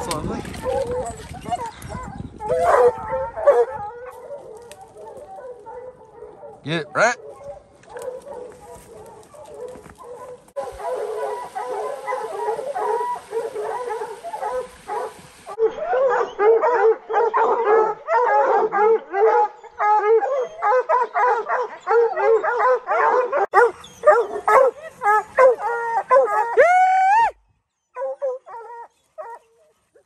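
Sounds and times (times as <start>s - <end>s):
hounds baying and barking: 0.0s - 27.3s, 27.9s - 30.0s.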